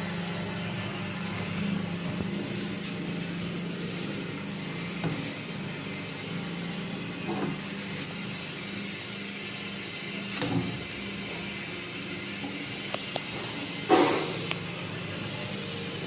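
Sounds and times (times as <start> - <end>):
mixer grinder motor running: 0.0 - 16.0.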